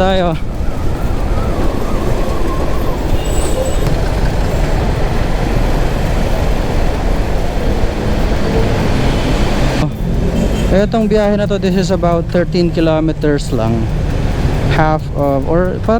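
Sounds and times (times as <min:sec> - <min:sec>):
motorcycle wind and road noise: 0:00.0 - 0:15.9.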